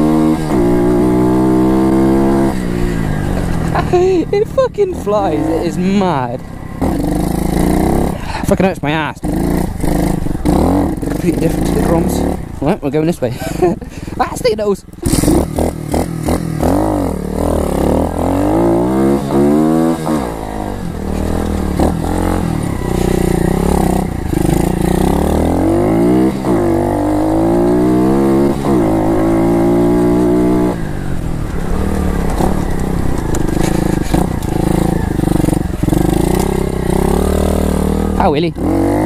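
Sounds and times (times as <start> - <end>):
motorbike engine revving: 0.0 - 39.0.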